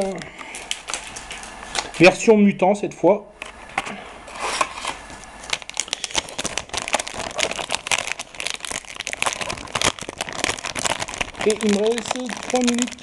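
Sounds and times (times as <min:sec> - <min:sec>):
foil pack crinkling: 0:00.0 - 0:02.2, 0:04.6 - 0:13.0.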